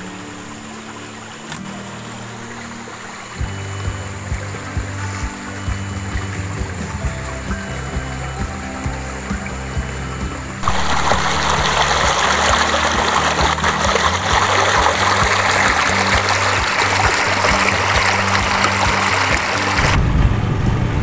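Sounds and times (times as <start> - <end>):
stream rushing over stones: 0.0 - 20.1
background music: 0.0 - 21.0.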